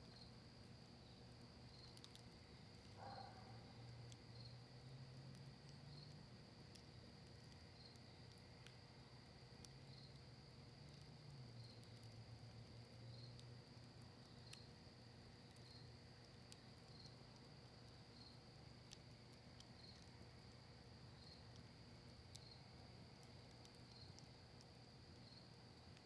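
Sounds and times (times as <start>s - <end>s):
campfire crackling and popping: 0.1s - 3.1s, 3.7s - 26.0s.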